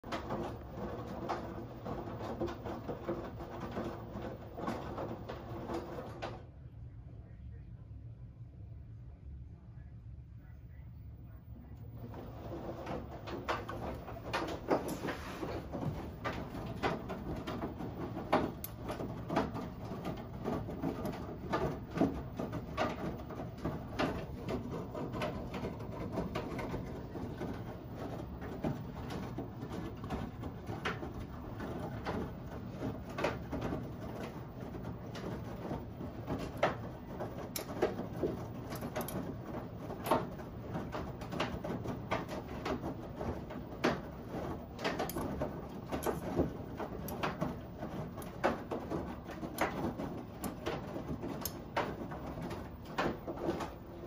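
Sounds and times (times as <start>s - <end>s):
washing machine drum rumbling: 0.0s - 6.5s, 11.8s - 54.0s.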